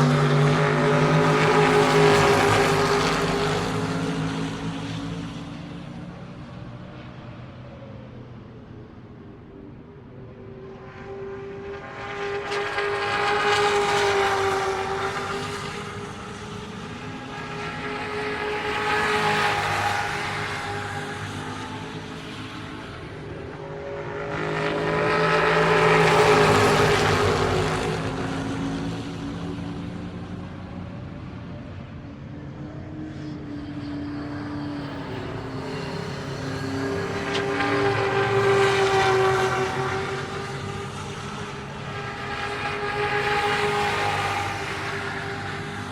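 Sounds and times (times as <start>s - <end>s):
race car engines at high revs: 0.0s - 7.5s, 10.3s - 45.9s.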